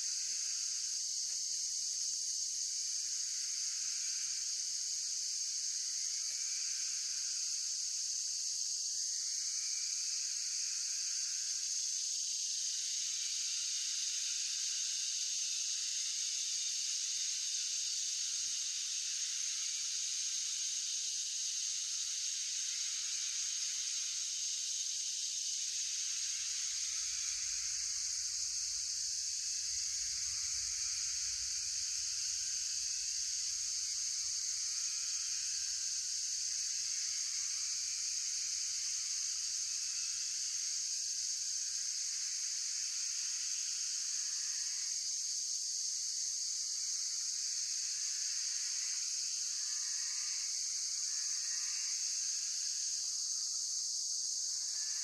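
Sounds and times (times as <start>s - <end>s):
crickets and insects chorus: 0.0s - 55.0s
faint wavering insect calls: 0.0s - 55.0s.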